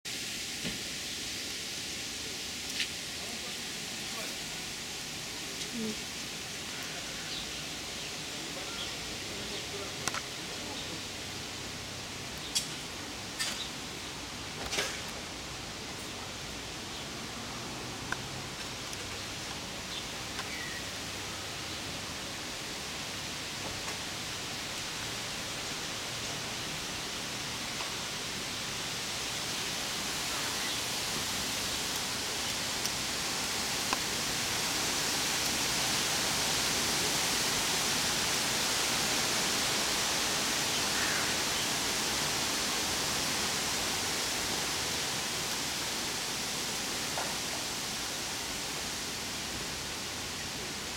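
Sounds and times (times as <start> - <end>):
light rain on leaves: 0.1 - 50.9.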